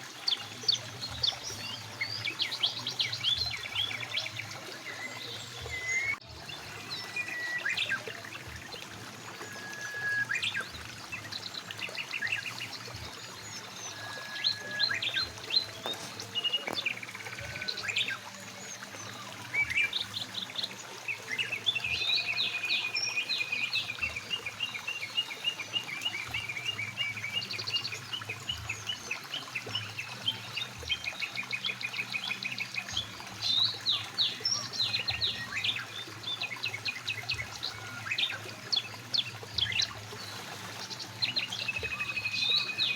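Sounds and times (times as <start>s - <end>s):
mountain stream flowing: 0.0s - 42.9s
songbirds singing and trilling: 0.0s - 42.9s.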